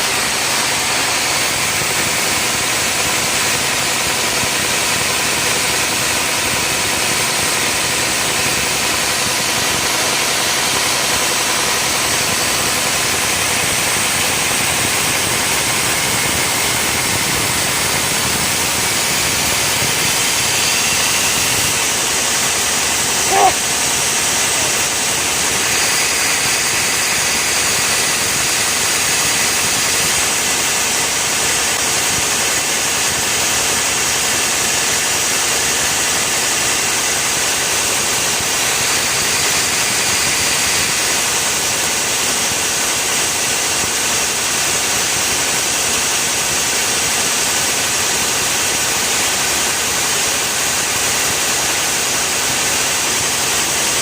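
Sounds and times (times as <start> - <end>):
loud hissing machine noise: 0.0 - 54.0.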